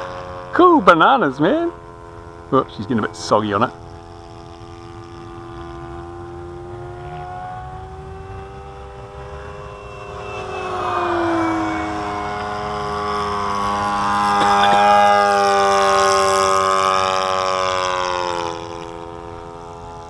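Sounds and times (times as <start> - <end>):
model airplane engine flying by: 0.0 - 20.0.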